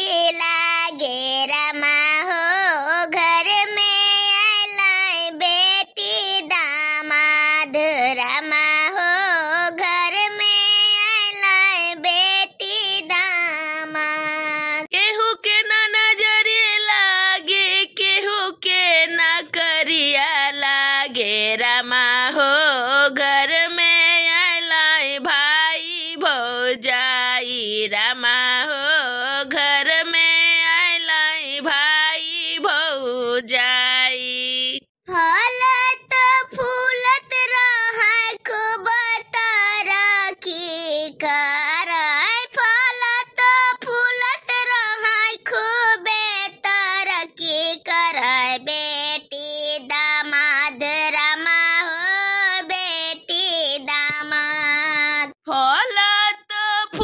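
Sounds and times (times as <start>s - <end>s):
woman singing folk song: 0.0s - 57.0s.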